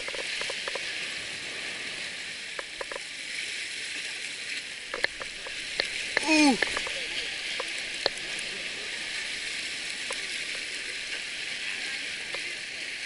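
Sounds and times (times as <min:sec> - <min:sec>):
sea water washing on rocks: 0:00.0 - 0:13.0.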